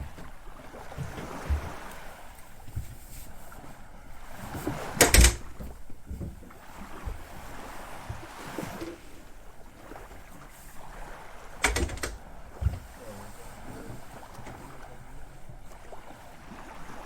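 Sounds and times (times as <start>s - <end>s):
water sounds of sailing yacht: 0.0s - 17.0s.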